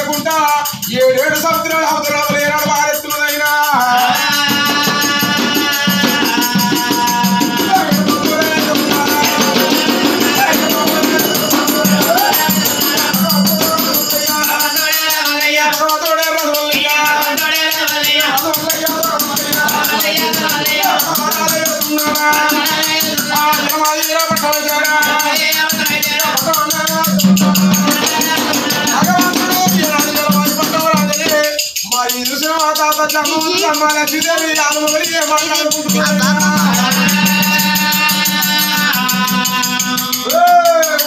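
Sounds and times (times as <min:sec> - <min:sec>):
devotional folk singing: 0:00.0 - 0:41.0
handheld percussion jingling: 0:00.0 - 0:41.0
small hand drum: 0:00.0 - 0:41.0.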